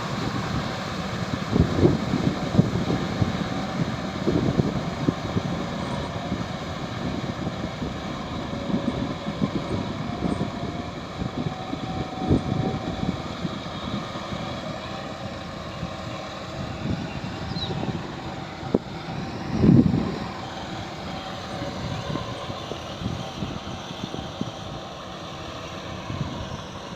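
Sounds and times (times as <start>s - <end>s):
low rumbling gusts: 0.0s - 26.9s
tractor diesel engine running: 0.0s - 26.9s.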